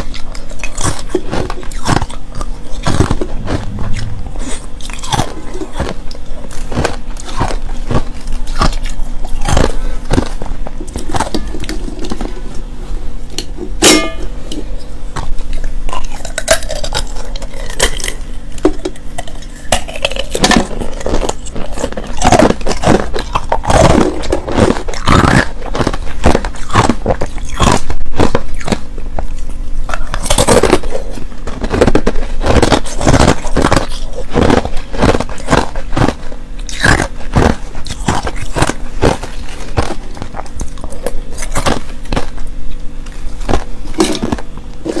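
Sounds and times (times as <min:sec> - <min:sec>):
crushed ice being chewed: 0:00.0 - 0:45.0.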